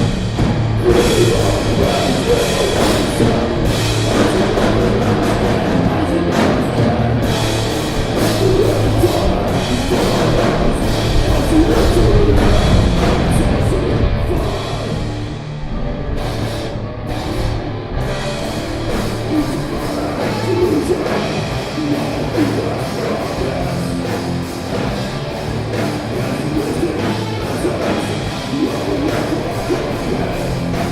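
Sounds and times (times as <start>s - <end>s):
metal band playing: 0.0s - 30.9s.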